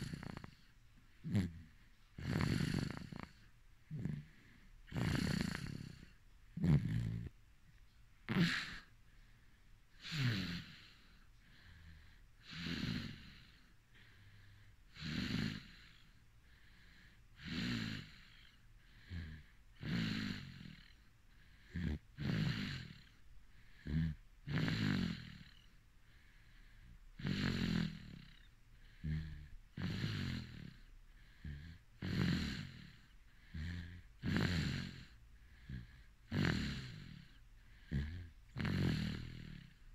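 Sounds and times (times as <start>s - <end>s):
person snoring: 0.0s - 7.3s, 8.3s - 8.9s, 10.0s - 39.9s
short snorts: 0.0s - 7.3s, 8.3s - 8.9s, 10.0s - 14.1s, 14.9s - 16.1s, 16.8s - 25.6s, 26.8s - 39.8s.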